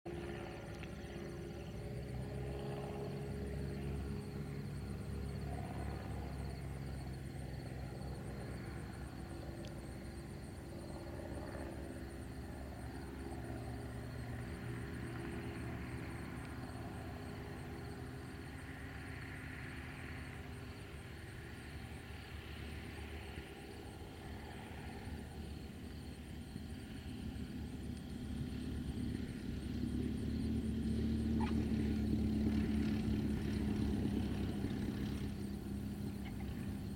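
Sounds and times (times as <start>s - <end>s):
propeller plane engine droning: 0.1s - 36.9s.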